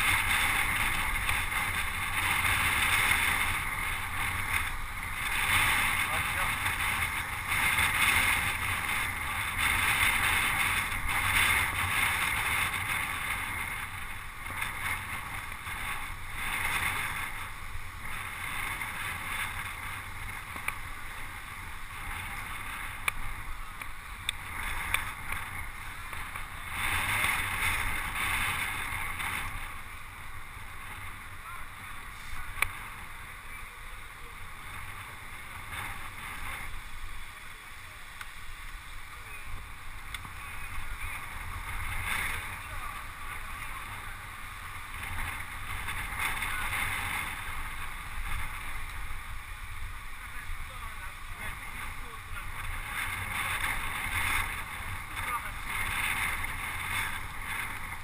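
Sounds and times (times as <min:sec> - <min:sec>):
bike tyre and drivetrain noise: 0:00.0 - 0:58.0
wind on camera microphone: 0:00.0 - 0:58.0.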